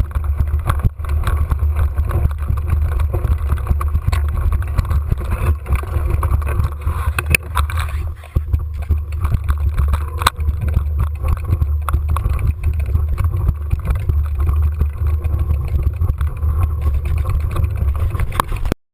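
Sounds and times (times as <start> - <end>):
bike rattling clicks and knocks: 0.0 - 18.8
low rumble of bike riding: 0.0 - 18.8.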